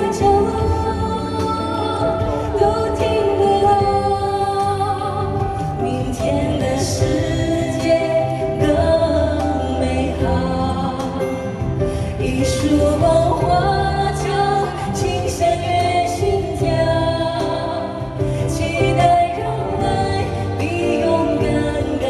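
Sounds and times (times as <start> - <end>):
instrumental accompaniment: 0.0 - 22.0
live pop ballad singing: 0.0 - 22.0.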